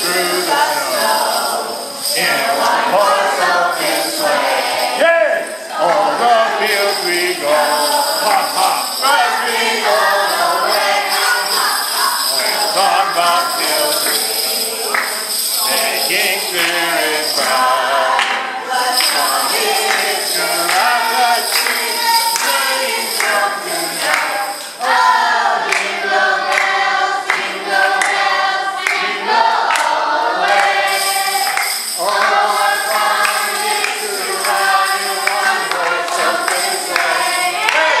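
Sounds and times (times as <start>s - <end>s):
bells jingling: 0.0s - 38.0s
group singing a christmas song: 0.0s - 38.0s.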